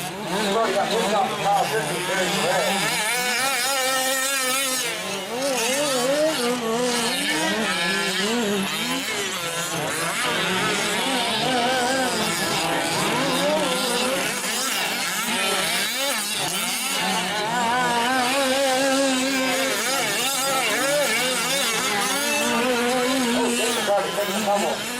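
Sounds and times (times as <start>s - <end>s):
small two-stroke engines whining: 0.0s - 24.9s.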